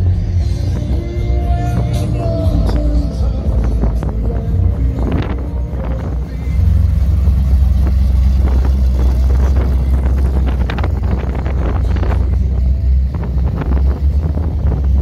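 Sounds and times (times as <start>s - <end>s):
car engines rumbling past: 0.0s - 15.0s.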